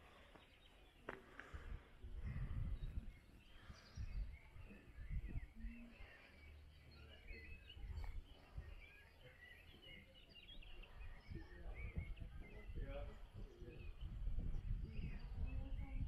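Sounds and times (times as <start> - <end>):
birds chirping: 0.0 - 16.0
wind rumble on microphone: 1.4 - 6.6, 7.3 - 9.6, 10.6 - 16.0.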